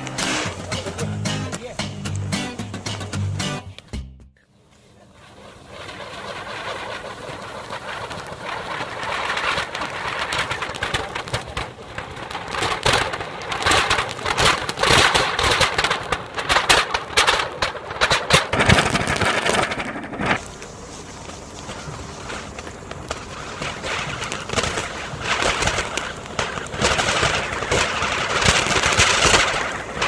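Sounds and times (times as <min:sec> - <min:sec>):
firework spraying hiss: 0:00.0 - 0:01.7, 0:04.6 - 0:30.0
firework sharp crackling: 0:00.0 - 0:03.9, 0:04.5 - 0:30.0.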